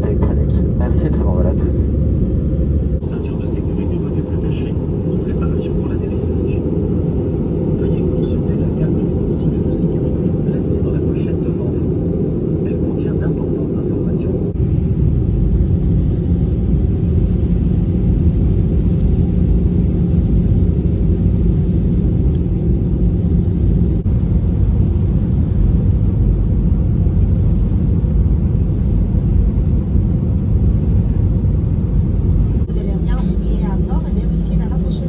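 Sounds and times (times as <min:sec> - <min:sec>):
airliner cabin engine rumble: 0:00.0 - 0:35.0.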